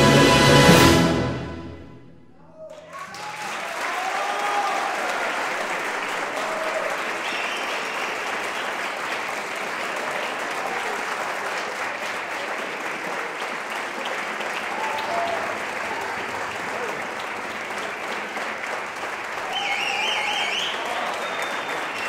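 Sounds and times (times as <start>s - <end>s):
audience applause: 2.7s - 22.0s.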